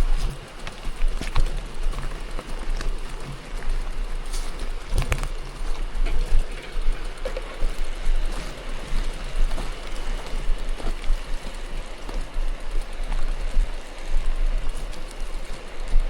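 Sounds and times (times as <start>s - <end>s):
bike clicks and knocks: 0.0s - 16.0s
bike tyres crunching on gravel: 0.0s - 16.0s.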